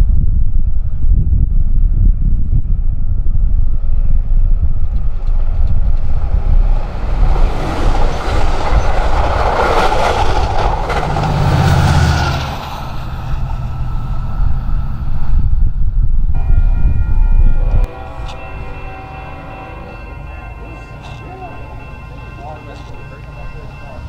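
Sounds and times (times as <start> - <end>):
wind buffeting microphone: 0.0 - 24.0
diesel locomotive engine drone: 0.1 - 24.0
train wheels rumbling on rails: 2.7 - 24.0.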